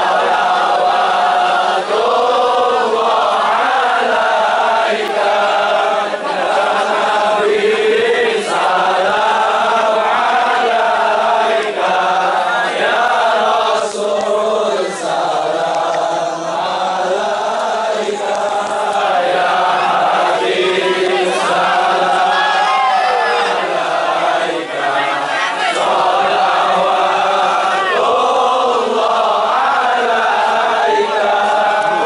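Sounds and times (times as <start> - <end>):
crowd of men chanting: 0.0 - 32.0.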